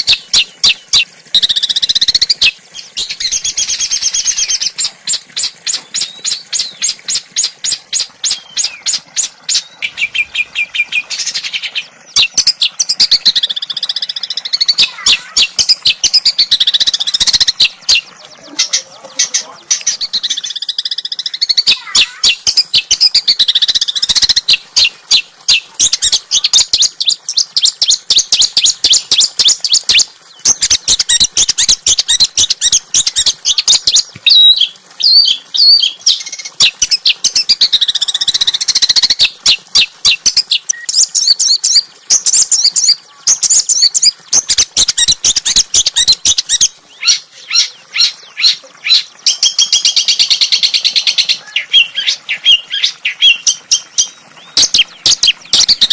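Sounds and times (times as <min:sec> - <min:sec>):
songbird chirping sharply: 0:00.0 - 0:31.5, 0:33.0 - 0:55.9.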